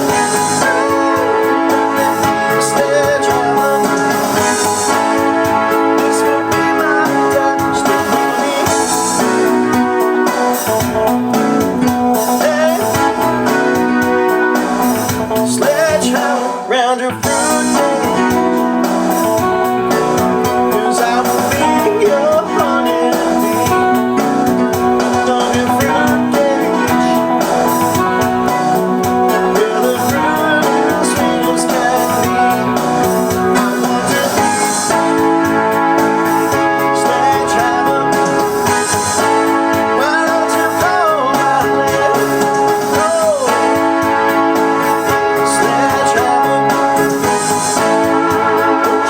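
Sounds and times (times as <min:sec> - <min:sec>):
keyboard backing track: 0:00.0 - 0:49.0
piano playing: 0:00.0 - 0:49.0.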